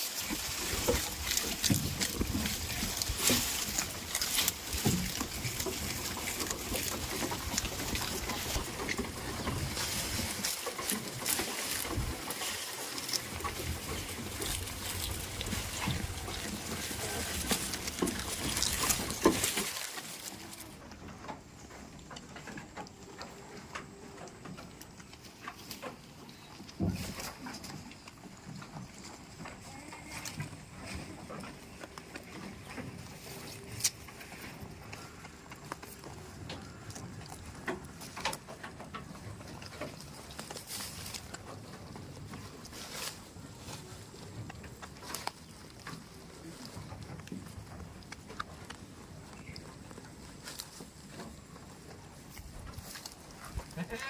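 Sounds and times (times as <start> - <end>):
goats making low sounds: 0.0 - 54.0.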